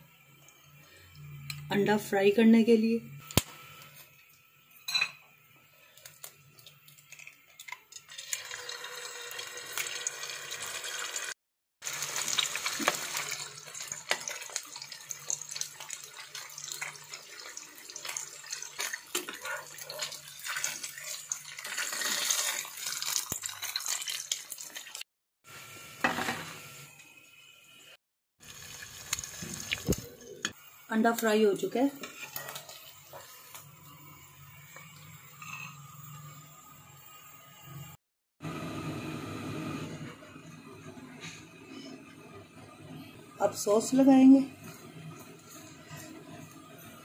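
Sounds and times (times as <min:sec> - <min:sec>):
egg sizzling in a pan: 0:03.3 - 0:38.0, 0:40.4 - 0:47.0.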